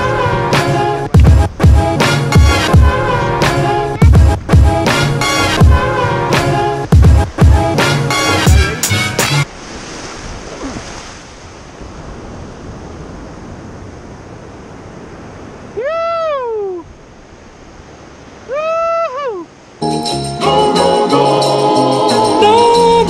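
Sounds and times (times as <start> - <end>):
surf hissing: 0.0 - 23.0.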